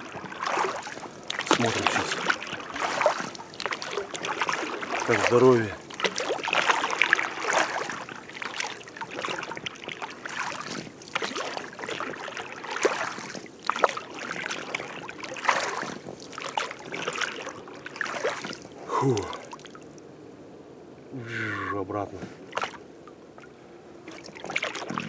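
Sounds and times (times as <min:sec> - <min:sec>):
oars splashing in water: 0:00.0 - 0:20.0, 0:22.2 - 0:25.0.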